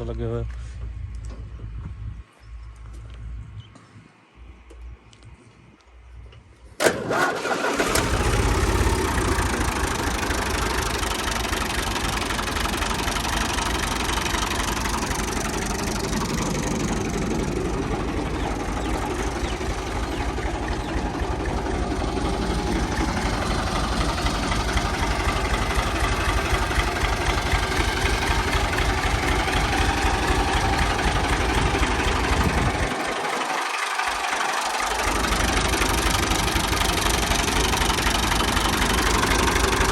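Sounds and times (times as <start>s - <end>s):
diesel tractor engine idling: 6.9s - 39.9s.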